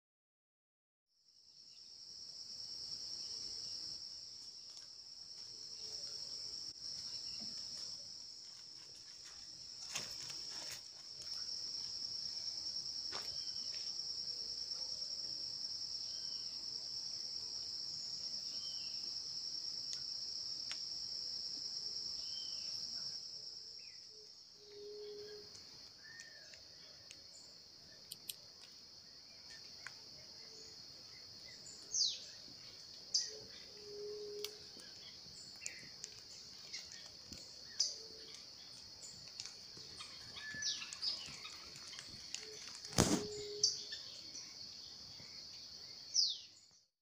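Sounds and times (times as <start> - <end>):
shrill insect chorus: 1.4 - 46.8.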